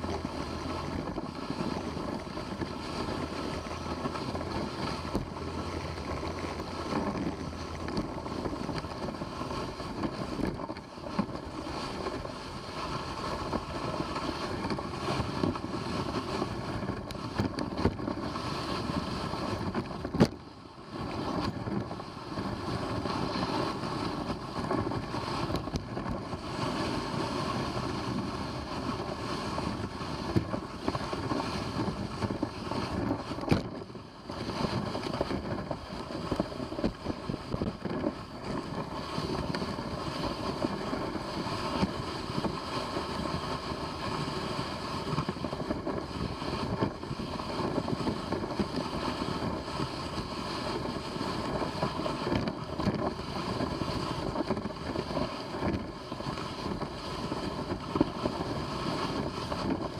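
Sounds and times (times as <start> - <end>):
dog sled rushing and scraping: 0.0 - 59.9
wind on microphone: 0.0 - 59.9.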